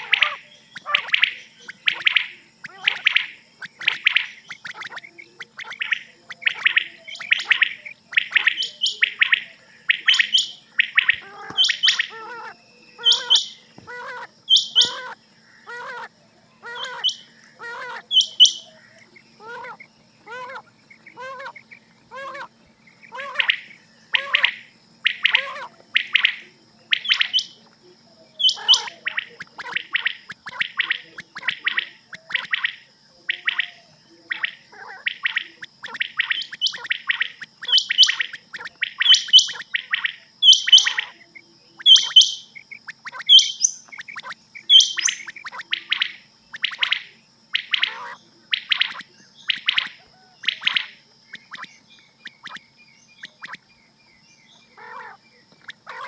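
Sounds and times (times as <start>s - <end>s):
quail calling: 0.0s - 27.7s, 28.3s - 52.6s, 54.6s - 56.0s
faint steady hum: 0.0s - 56.0s.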